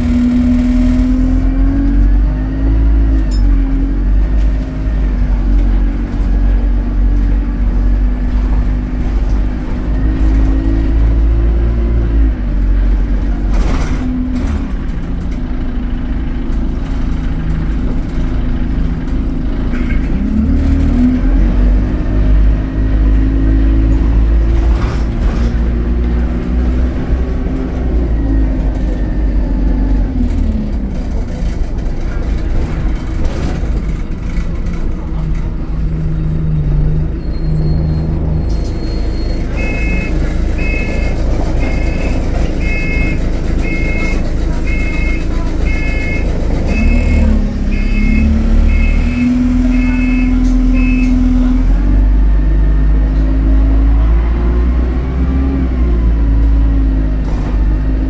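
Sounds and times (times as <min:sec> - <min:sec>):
bus diesel engine revving: 0:00.0 - 0:58.0.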